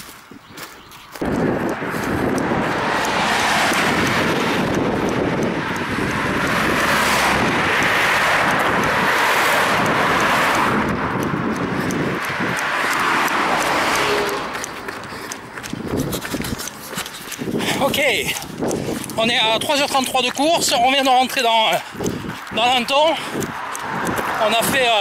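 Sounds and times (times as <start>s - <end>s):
passing road traffic: 0.0s - 25.0s
wind on microphone: 0.0s - 25.0s.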